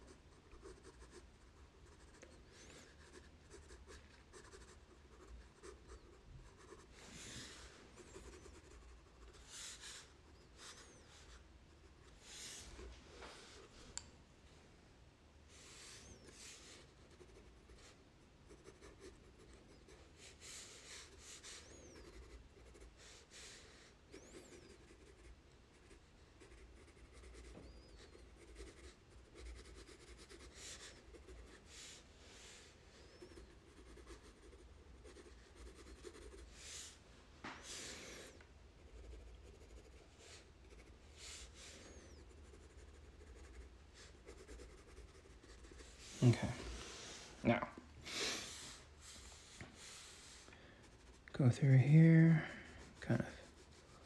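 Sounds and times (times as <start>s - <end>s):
pencil scratching on paper: 0.0s - 13.7s, 15.5s - 37.0s, 37.6s - 47.3s, 48.5s - 54.0s.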